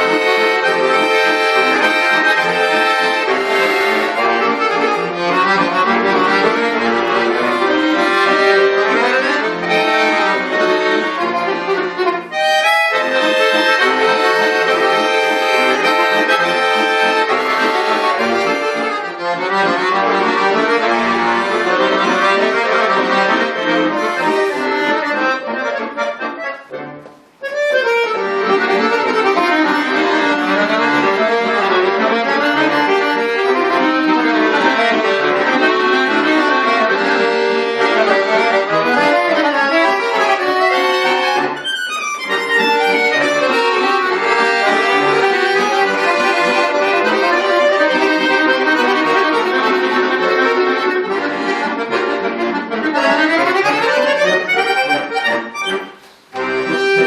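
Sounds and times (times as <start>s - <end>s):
button accordion playing chords: 0.0s - 57.0s.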